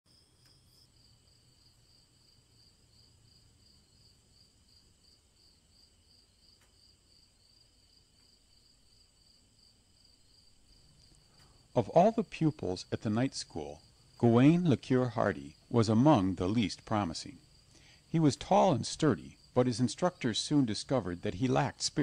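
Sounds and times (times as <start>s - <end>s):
crickets chirping: 0.1s - 22.0s.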